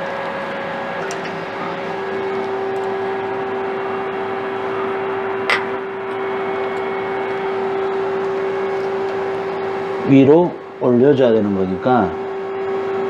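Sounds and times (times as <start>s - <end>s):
lathe machine humming: 0.0s - 13.0s.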